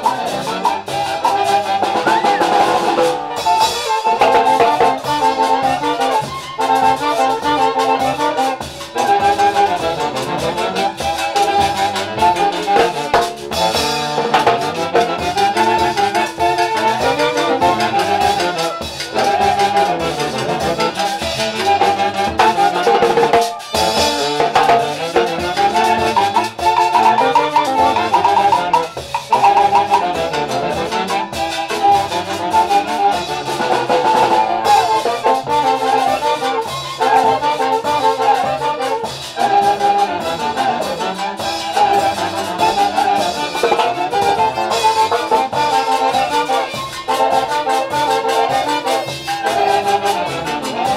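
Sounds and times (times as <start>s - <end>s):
brass melody: 0.0s - 50.9s
steady drum beat: 0.0s - 50.9s.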